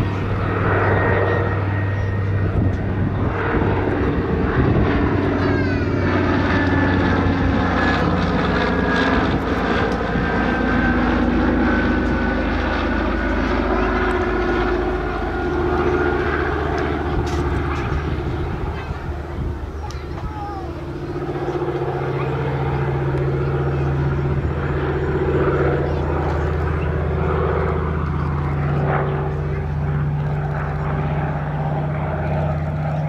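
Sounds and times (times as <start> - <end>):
propeller aircraft engines droning: 0.0 - 33.0.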